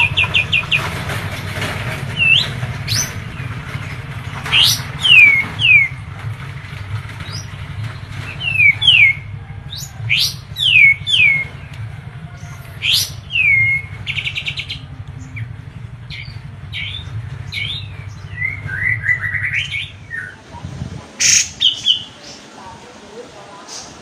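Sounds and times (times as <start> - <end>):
bird singing: 0.0 - 20.4, 21.2 - 22.7
steady low hum: 0.0 - 24.0.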